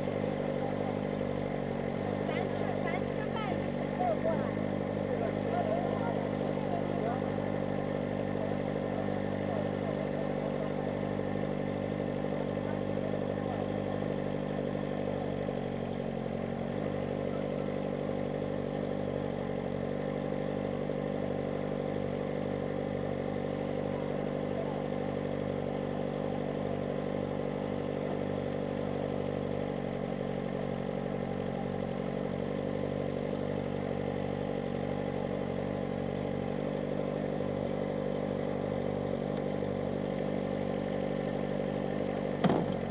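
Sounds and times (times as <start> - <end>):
motorcycle engine running steadily: 0.0 - 42.9.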